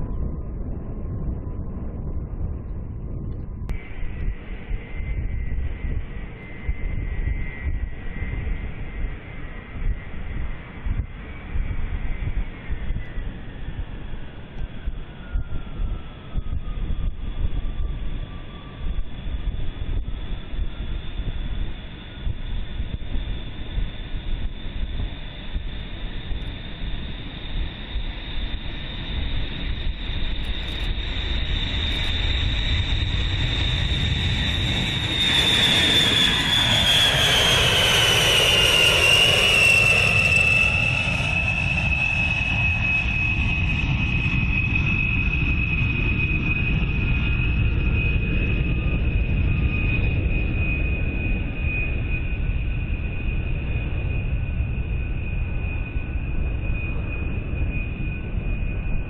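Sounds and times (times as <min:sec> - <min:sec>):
jet bomber taking off: 0:00.0 - 0:59.0.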